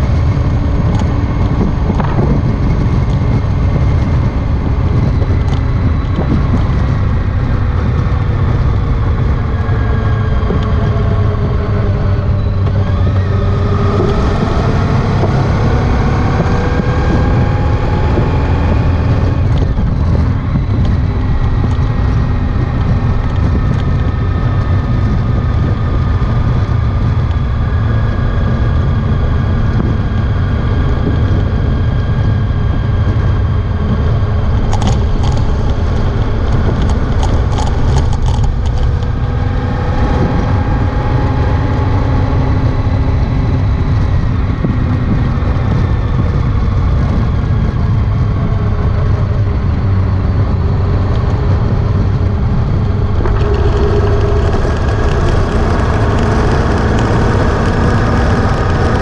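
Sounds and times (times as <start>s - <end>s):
motorcycle engine rumble: 0.0s - 59.0s.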